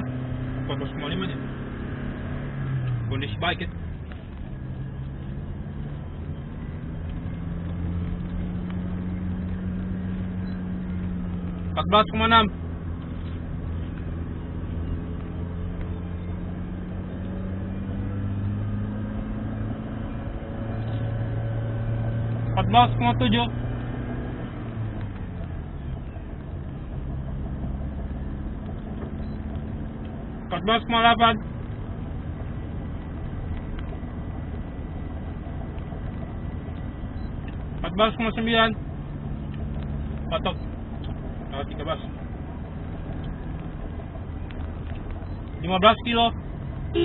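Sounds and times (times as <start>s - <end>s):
car engine and tyre noise: 0.0s - 47.0s.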